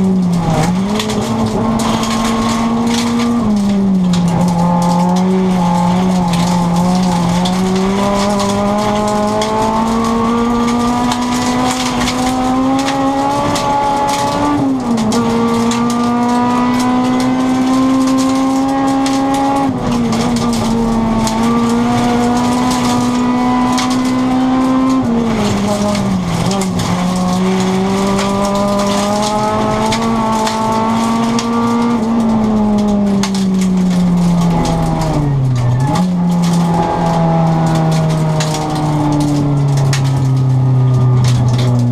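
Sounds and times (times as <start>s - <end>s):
car engine at full throttle: 0.0s - 41.9s
gravel crackling under car: 0.0s - 41.9s.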